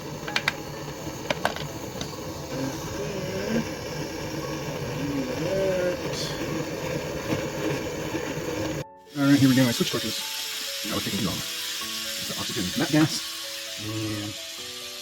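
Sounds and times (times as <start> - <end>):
lighter flame hissing: 0.0 - 15.0.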